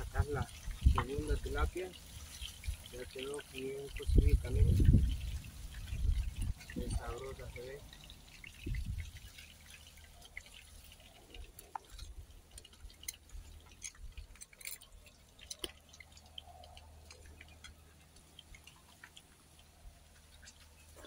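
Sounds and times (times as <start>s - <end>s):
frying oil crackling and popping: 0.0s - 21.0s.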